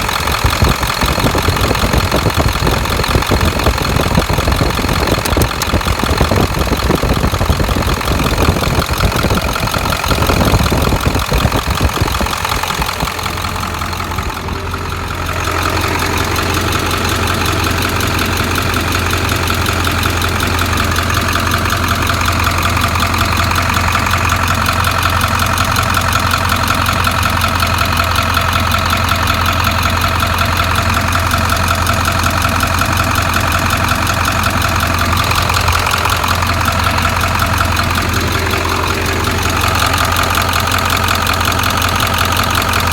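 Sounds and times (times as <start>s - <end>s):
engine idling with ticking: 0.0s - 42.9s.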